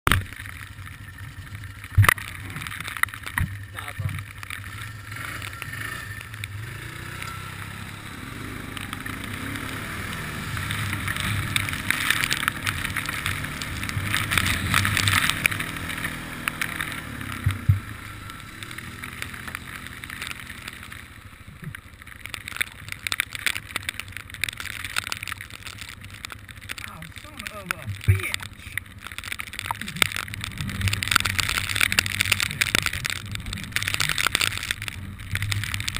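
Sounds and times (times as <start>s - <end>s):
quad engine under throttle: 0.1s - 35.9s.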